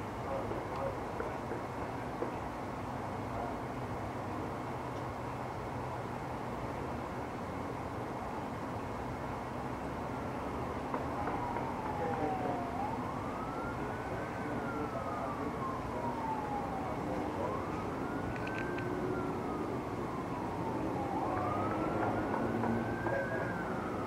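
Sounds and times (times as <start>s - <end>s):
background noise: 0.0s - 24.0s
emergency siren wailing: 0.2s - 4.7s, 9.0s - 24.0s.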